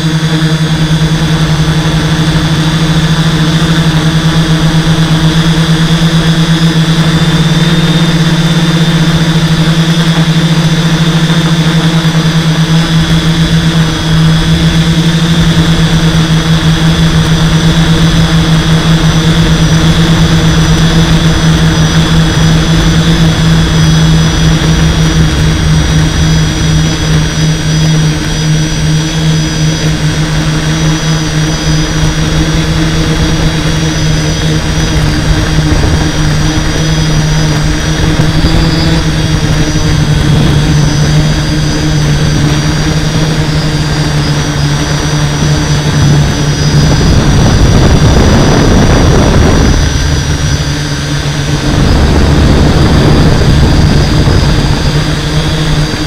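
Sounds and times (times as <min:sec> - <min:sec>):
drone motors humming: 0:00.0 - 0:56.0
high propeller whine: 0:00.0 - 0:56.0.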